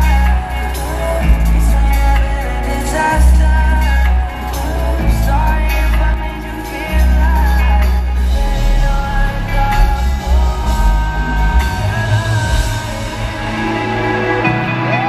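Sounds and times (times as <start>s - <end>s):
deep synth bass: 0.0s - 14.9s
live pop song through speakers: 0.0s - 15.0s
person singing: 0.0s - 15.0s.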